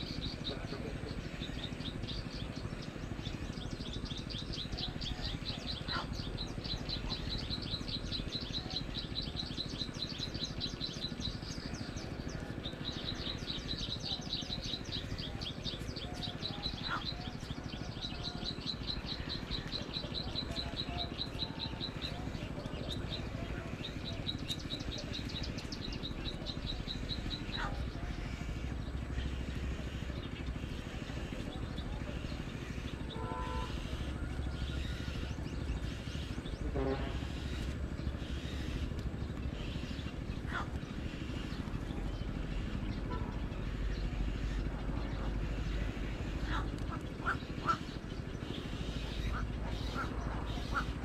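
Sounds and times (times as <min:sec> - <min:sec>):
bird trilling: 0:00.0 - 0:51.0
low outdoor rumble: 0:00.0 - 0:51.0.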